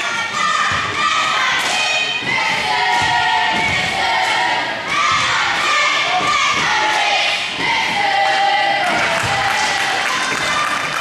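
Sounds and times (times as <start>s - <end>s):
crowd shouting and cheering: 0.0s - 11.0s.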